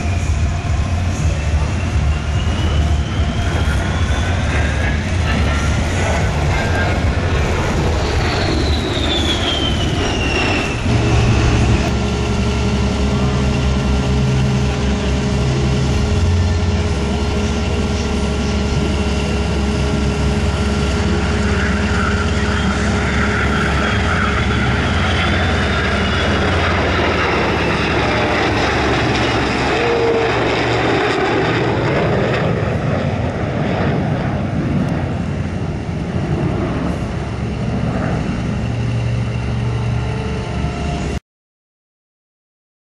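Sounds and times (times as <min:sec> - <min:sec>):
jet engines passing with whine: 0:00.0 - 0:41.2
jet fighters flying over: 0:00.0 - 0:41.2
propeller plane flying over: 0:00.0 - 0:41.2.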